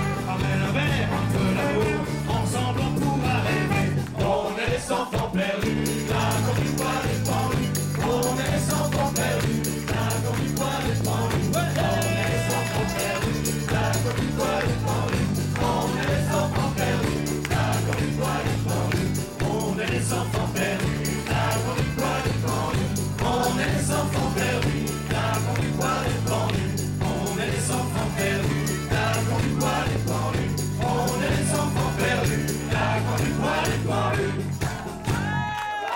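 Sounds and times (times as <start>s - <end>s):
accordion melody: 0.0s - 4.1s, 5.7s - 34.8s
folk band playing: 0.0s - 4.2s, 5.9s - 34.8s
repeating bass line: 0.0s - 4.2s, 5.7s - 35.3s
jingling percussion: 0.0s - 35.4s
tambourine shaken: 0.0s - 35.4s.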